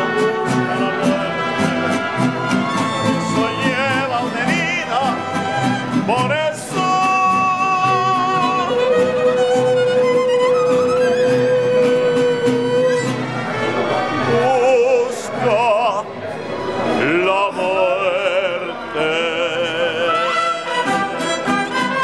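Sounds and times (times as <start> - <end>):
person singing: 0.0 - 13.1, 13.7 - 16.2, 16.8 - 22.0
mariachi band playing: 0.0 - 22.0.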